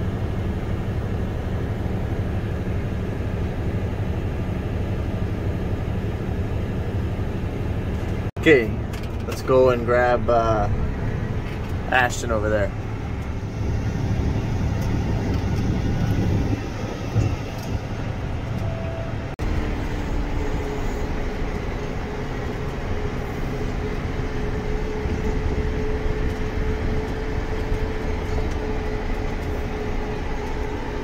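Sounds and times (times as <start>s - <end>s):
steady whine: 0.0s - 31.0s
tractor engine running: 0.0s - 31.0s.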